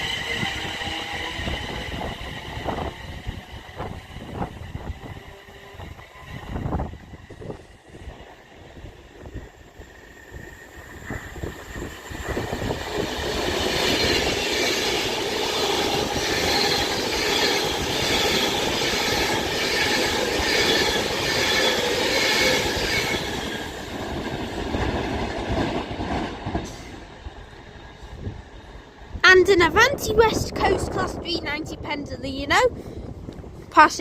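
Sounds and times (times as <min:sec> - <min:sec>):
electric train passing at speed: 0:00.0 - 0:34.0.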